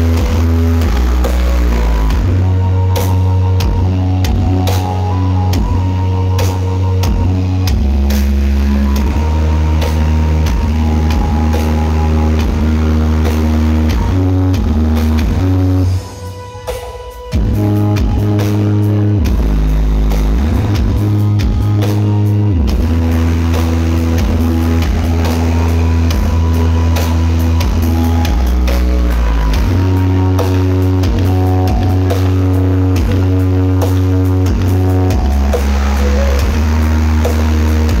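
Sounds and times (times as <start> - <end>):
heavy sustained bass notes: 0.0 - 16.5, 17.3 - 38.0
loud rock music: 0.0 - 38.0.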